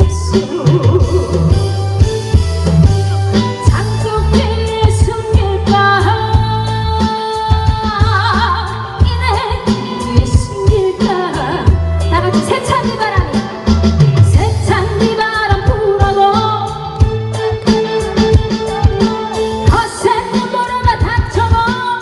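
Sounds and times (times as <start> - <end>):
woman singing with vibrato: 0.0 - 1.8, 3.6 - 17.0, 18.7 - 22.0
amplified backing track: 0.0 - 22.0.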